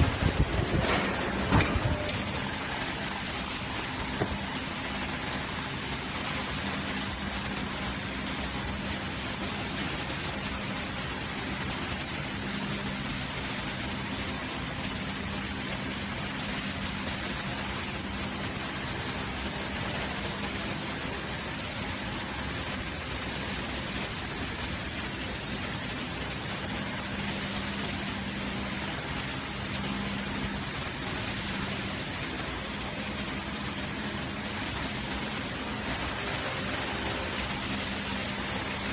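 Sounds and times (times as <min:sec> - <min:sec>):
factory machinery hiss: 0:00.0 - 0:38.9
machinery low hum: 0:00.0 - 0:38.9.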